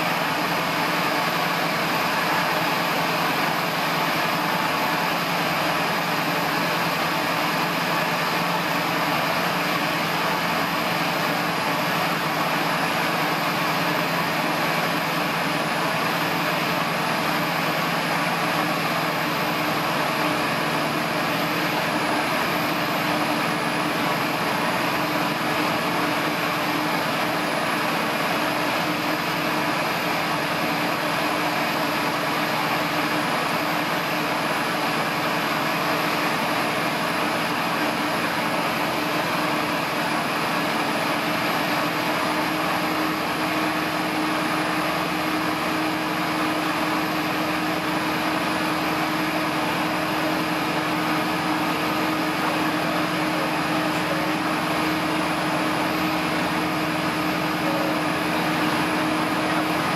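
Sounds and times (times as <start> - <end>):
propeller aircraft engine running: 0.0 - 59.9.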